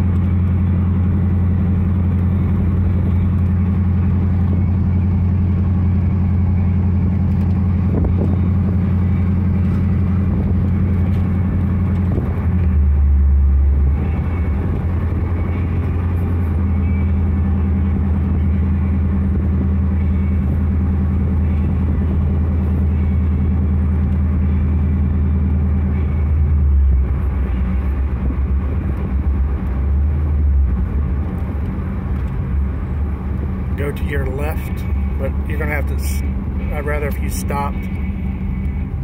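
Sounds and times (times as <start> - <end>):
engine drone inside cab: 0.0 - 39.0.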